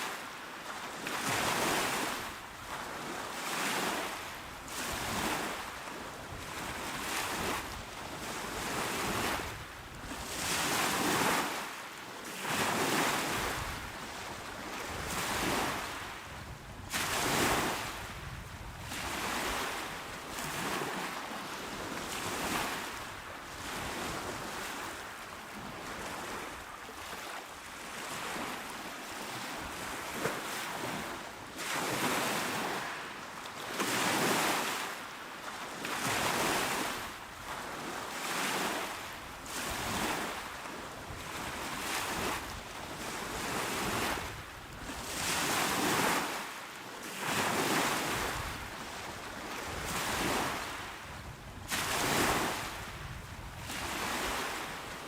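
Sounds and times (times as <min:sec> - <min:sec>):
small waves washing on shore: 0:00.0 - 0:55.0.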